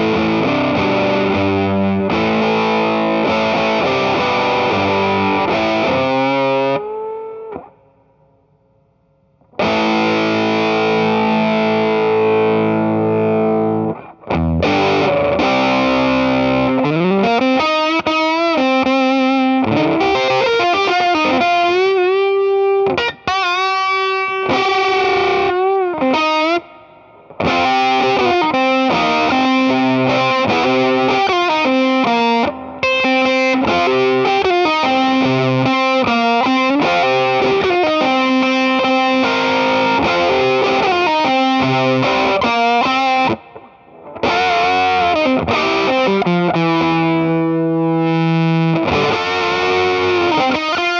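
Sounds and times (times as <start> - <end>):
distorted electric guitar melody: 0.0 - 8.5, 9.4 - 50.9.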